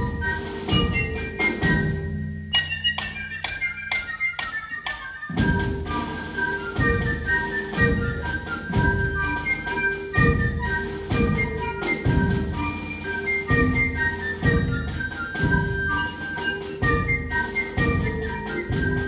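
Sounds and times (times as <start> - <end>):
fife and drum corps playing: 0.0 - 19.0.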